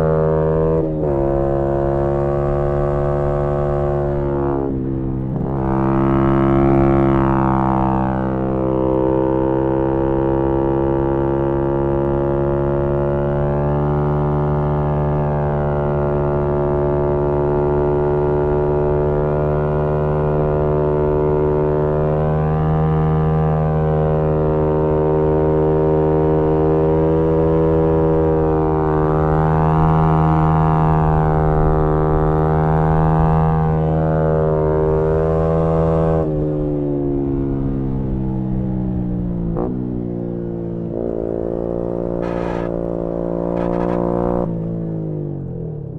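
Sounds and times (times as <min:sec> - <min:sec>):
motorcycle engine at high revs: 0:00.0 - 0:36.4, 0:39.4 - 0:45.9.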